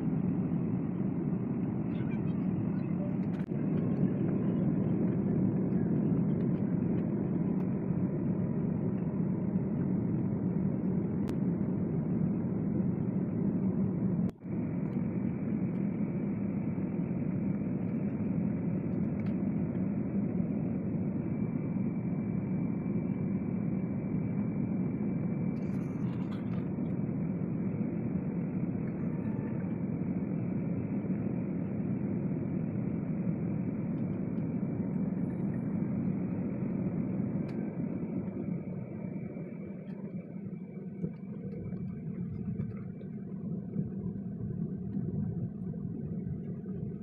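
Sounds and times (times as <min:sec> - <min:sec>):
airliner cabin rumble: 0:00.0 - 0:47.0
faint steady whine: 0:00.0 - 0:47.0.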